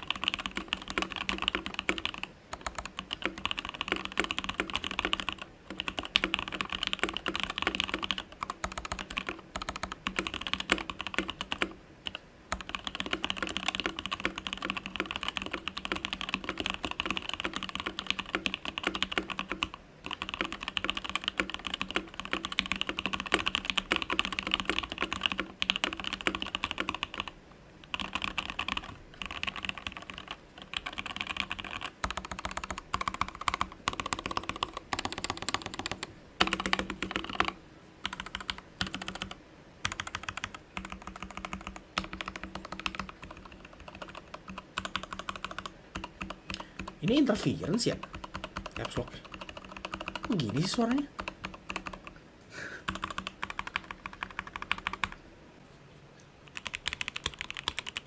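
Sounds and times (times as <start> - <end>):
mechanical keyboard typing: 0.0 - 52.2, 52.8 - 55.2, 56.5 - 58.0.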